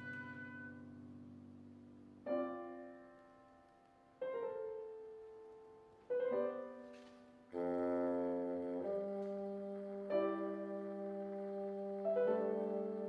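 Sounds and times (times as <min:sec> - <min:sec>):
soft piano chords: 0:00.0 - 0:13.0.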